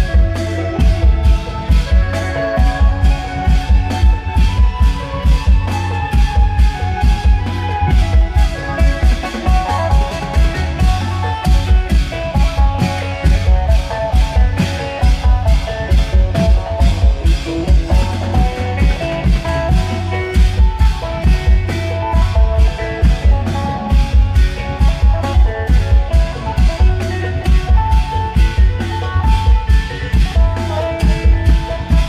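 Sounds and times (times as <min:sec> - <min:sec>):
deep drum beats: 0:00.0 - 0:32.0
plucked string melody: 0:00.0 - 0:32.0.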